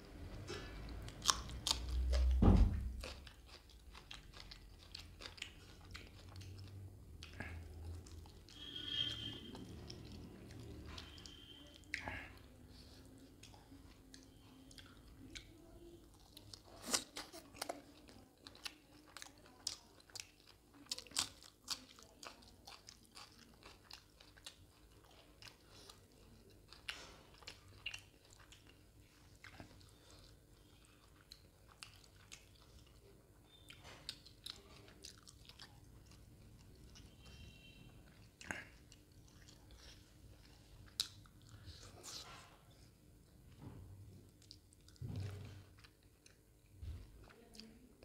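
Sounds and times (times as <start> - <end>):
wet chewing and biting: 0.8 - 42.4.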